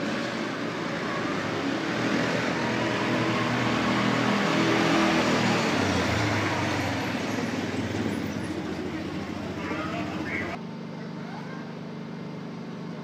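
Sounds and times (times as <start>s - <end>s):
buggy engine approaching: 0.0s - 12.2s.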